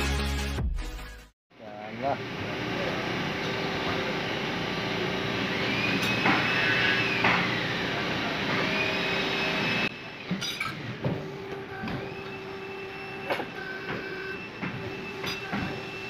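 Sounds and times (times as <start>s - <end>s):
machine whine: 1.6s - 16.0s
machinery hum: 1.6s - 16.0s.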